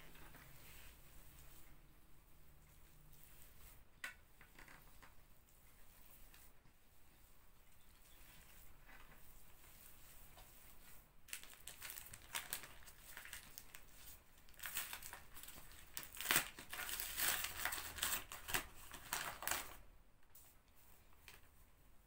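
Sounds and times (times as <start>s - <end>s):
hands kneading dough: 0.0s - 22.0s.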